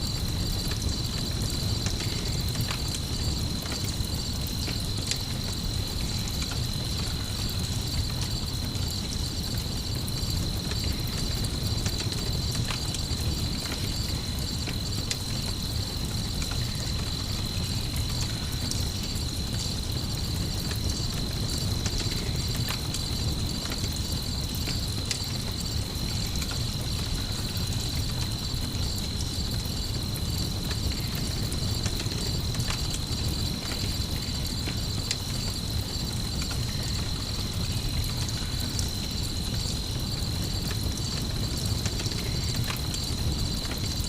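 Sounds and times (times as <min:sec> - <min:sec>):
campfire crackling: 0:00.0 - 0:44.0
crickets trilling: 0:00.0 - 0:44.0.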